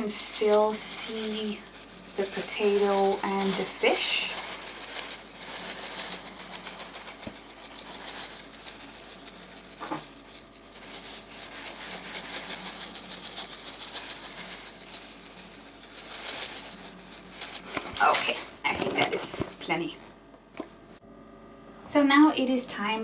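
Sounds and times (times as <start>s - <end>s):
breadcrumbs pattering on a dish: 0.0s - 19.5s.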